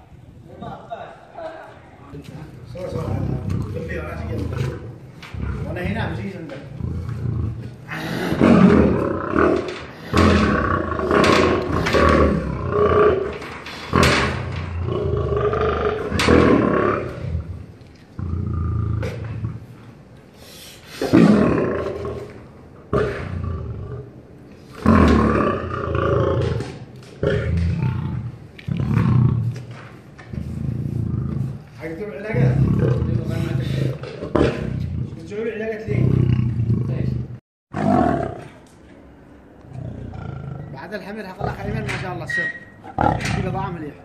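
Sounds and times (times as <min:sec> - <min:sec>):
lion roaring calls: 0:02.6 - 0:19.7, 0:21.0 - 0:29.7, 0:32.4 - 0:35.3, 0:35.9 - 0:38.6, 0:39.7 - 0:43.7.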